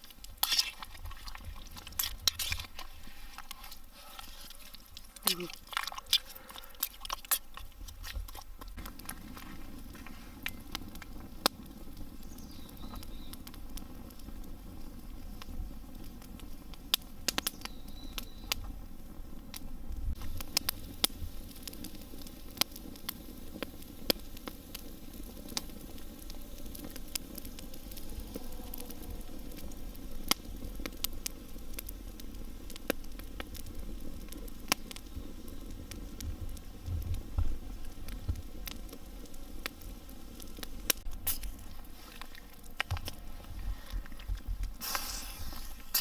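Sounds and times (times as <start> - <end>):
campfire crackling and popping: 0.0 - 46.0
low steady hiss: 0.0 - 46.0.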